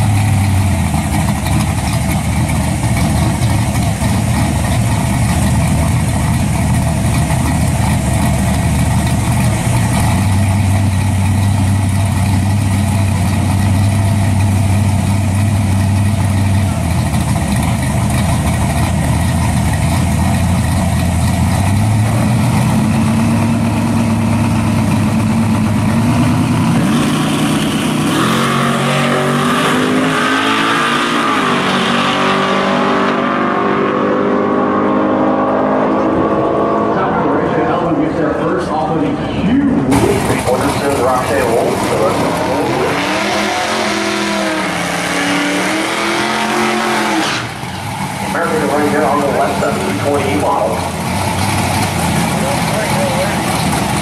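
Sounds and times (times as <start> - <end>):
car engines idling: 0.0 - 31.7, 34.6 - 54.0
engines accelerating: 0.0 - 54.0.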